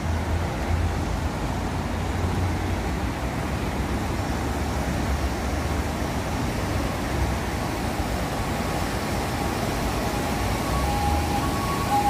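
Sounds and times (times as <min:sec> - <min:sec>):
river water rushing through weir: 0:00.0 - 0:12.0.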